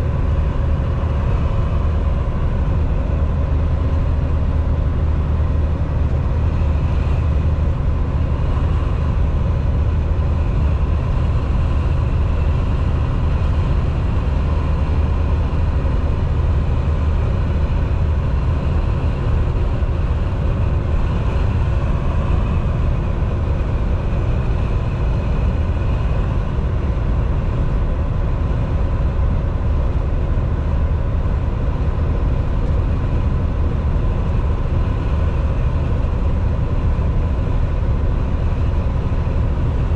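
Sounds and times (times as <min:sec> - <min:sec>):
truck engine hum and road noise: 0:00.0 - 0:39.9.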